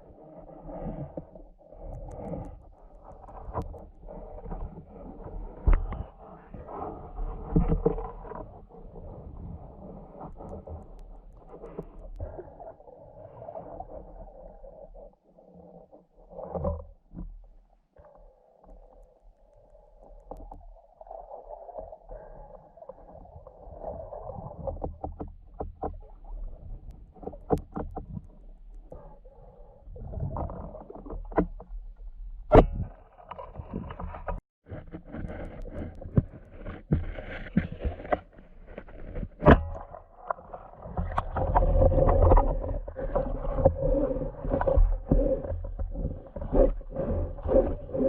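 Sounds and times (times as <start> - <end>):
muffled underwater rumble: 0.0 - 48.0.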